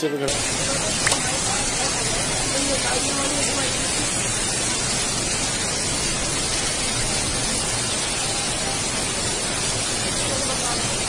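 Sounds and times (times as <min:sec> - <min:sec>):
water rushing: 0:00.3 - 0:11.0.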